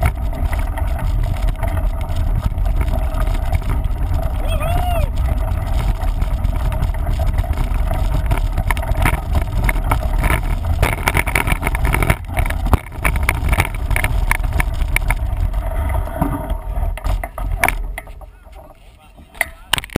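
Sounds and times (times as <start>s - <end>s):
wind buffeting microphone: 0.0s - 18.0s
mountain bike rattling on trail: 0.0s - 19.9s.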